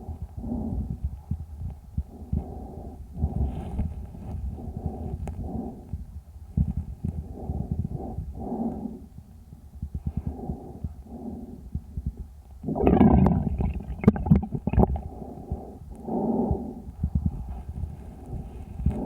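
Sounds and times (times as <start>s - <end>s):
calf breathing: 0.0s - 19.0s.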